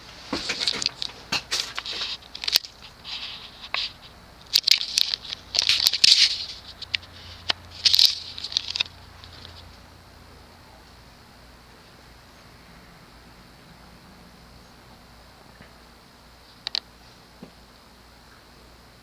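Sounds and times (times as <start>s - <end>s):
faint ceiling fan motor hum: 0.0s - 19.0s.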